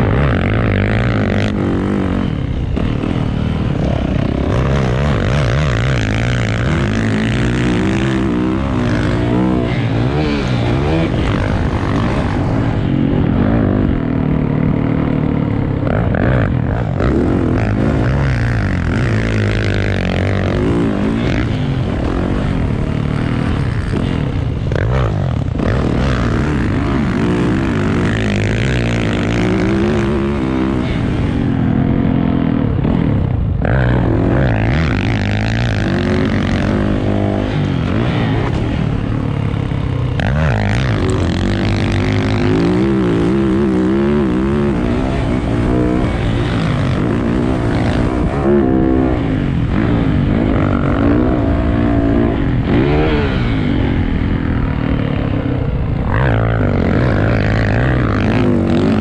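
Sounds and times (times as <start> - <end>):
vehicle engine revving: 0.0 - 59.0.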